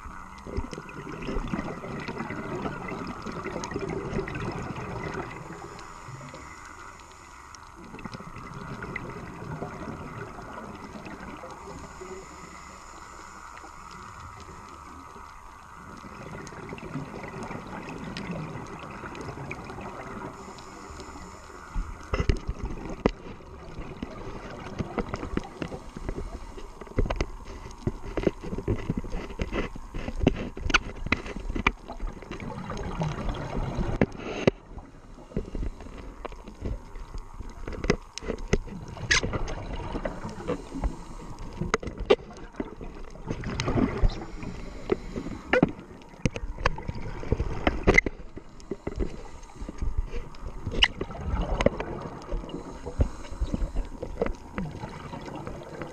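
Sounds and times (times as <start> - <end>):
exhaled bubbles knocking and crackling: 0.0 - 12.1, 13.0 - 55.9
steady low underwater hiss: 0.0 - 55.9.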